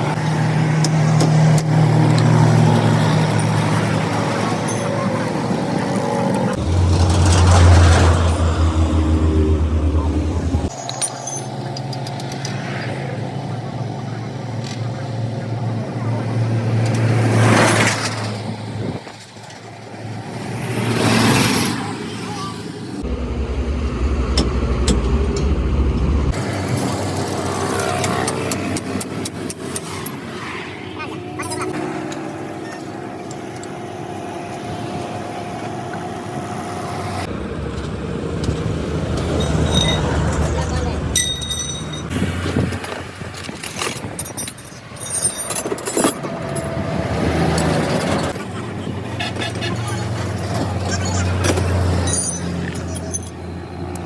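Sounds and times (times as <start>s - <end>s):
steady engine hum: 0.0s - 54.0s
vehicles passing: 0.0s - 54.0s.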